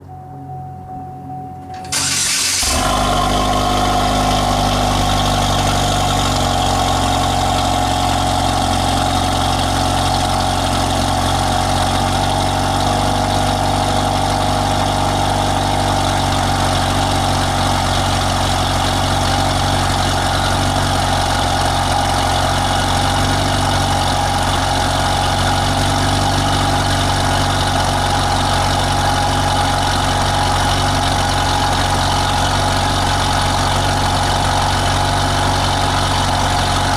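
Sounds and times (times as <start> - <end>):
car engine idling: 1.6 - 36.9.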